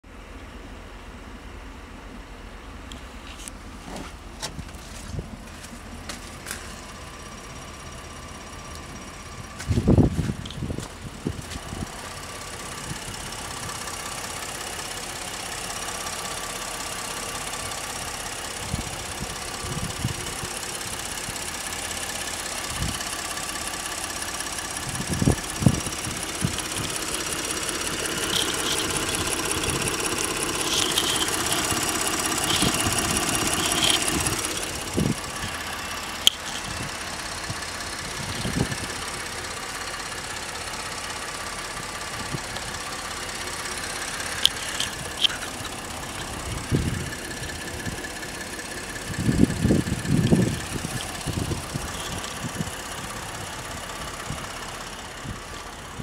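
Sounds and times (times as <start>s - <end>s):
truck engine idling: 0.1s - 56.0s.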